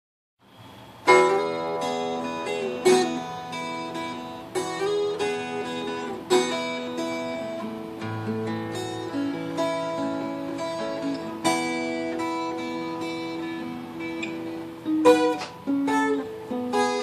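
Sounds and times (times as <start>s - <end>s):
fingerpicked acoustic guitar: 0.5s - 17.0s.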